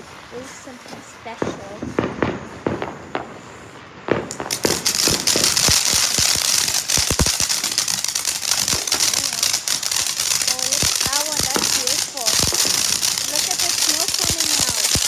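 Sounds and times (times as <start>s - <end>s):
firework hissing and crackling: 0.0s - 15.0s
firework pops: 1.4s - 3.4s, 4.1s - 15.0s.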